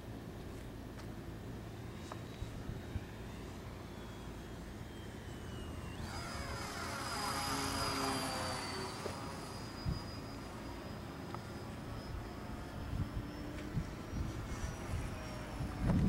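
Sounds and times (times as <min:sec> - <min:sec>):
electric model plane motor whining: 0:01.8 - 0:16.0.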